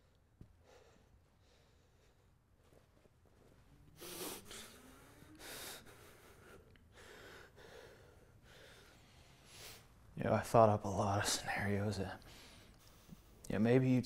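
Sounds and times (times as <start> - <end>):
man breathing heavily: 0.0 - 10.2, 12.2 - 13.4.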